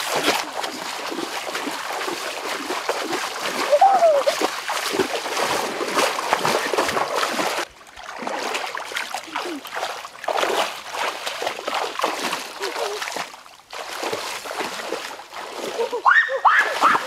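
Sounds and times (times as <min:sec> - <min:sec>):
water splashing from wading: 0:00.0 - 0:17.0.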